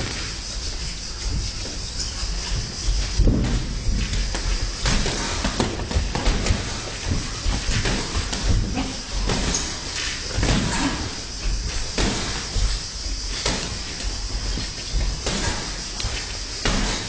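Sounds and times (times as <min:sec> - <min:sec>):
boxing gloves thudding: 0:03.2 - 0:17.0.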